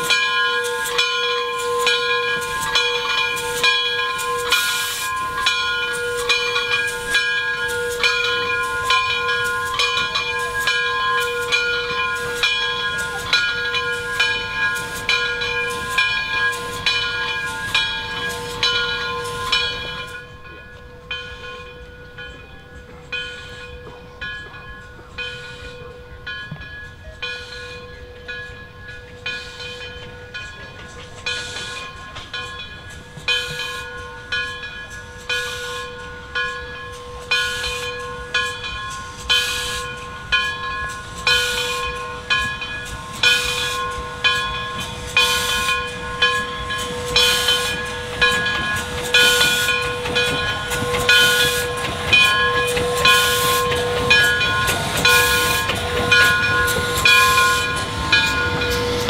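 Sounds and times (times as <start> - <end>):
steam hissing: 0.0 - 59.0
steam locomotive chuffing: 0.0 - 59.0.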